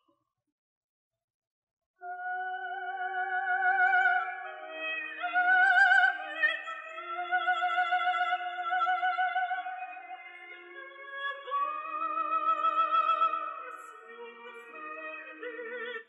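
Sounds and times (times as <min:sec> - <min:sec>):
operatic singing with vibrato: 0:02.0 - 0:16.0.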